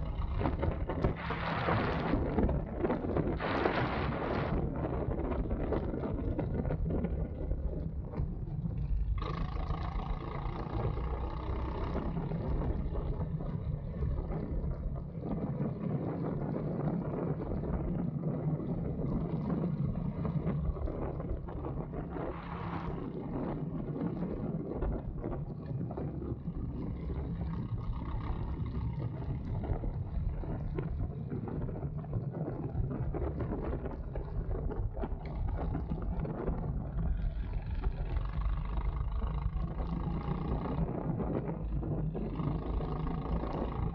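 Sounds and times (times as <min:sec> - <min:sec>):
go-kart motor drone: 0:00.0 - 0:43.9
wind noise on microphone: 0:00.0 - 0:43.9.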